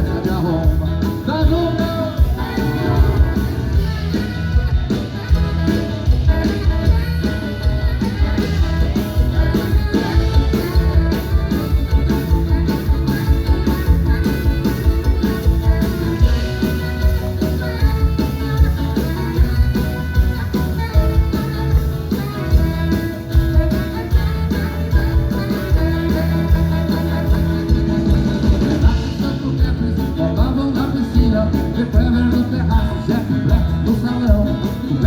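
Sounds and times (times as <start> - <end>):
drums and bass rock beat: 0.0 - 35.0
guitar: 0.0 - 35.0.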